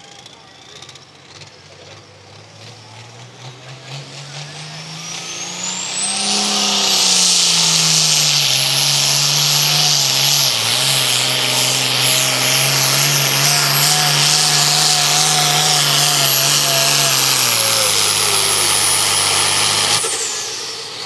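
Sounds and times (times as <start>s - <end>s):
diesel tractor engine at full throttle: 0.0s - 21.0s.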